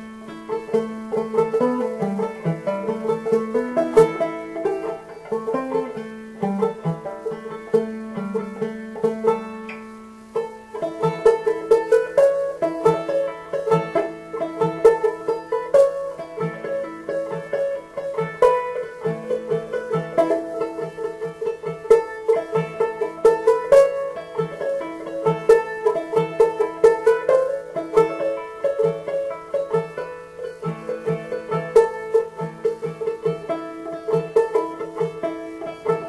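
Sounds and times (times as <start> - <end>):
banjo picking: 0.0 - 36.0.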